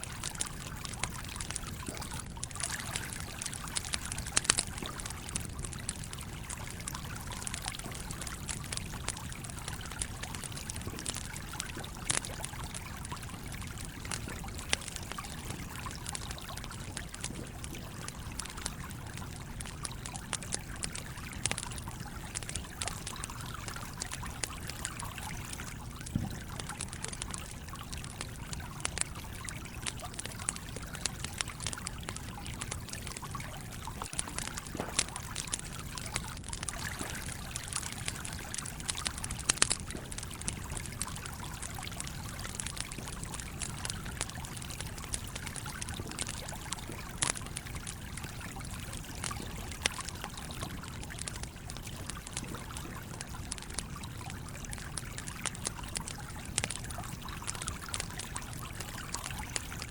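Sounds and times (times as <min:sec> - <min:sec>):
campfire crackling pops: 0:00.0 - 0:59.9
stream trickling: 0:00.0 - 0:59.9.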